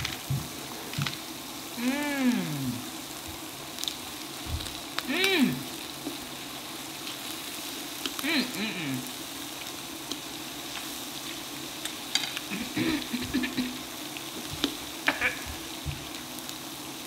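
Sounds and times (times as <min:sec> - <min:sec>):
food sizzling on grill plate: 0:00.0 - 0:17.0.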